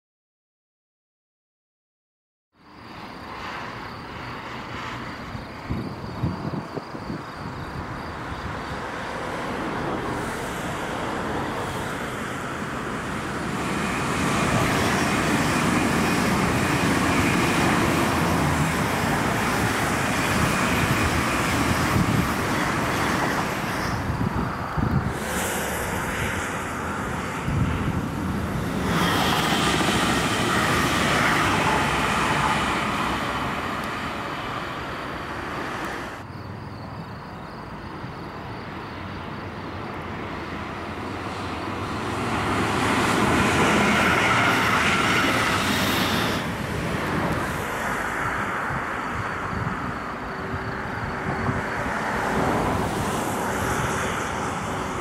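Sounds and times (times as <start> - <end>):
high-speed train passing: 2.6 - 55.0.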